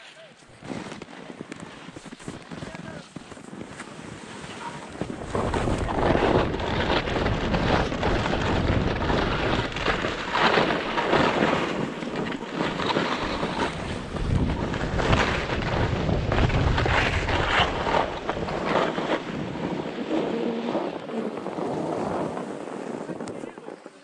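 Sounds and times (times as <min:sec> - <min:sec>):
skis scraping over snow: 0:00.0 - 0:24.0
wind rushing over microphone: 0:00.5 - 0:24.0.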